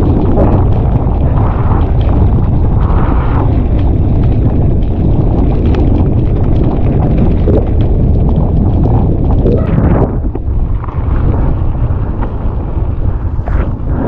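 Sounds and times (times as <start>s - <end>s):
bike clicking and rattling: 0.0s - 14.0s
wind buffeting microphone: 0.0s - 14.0s.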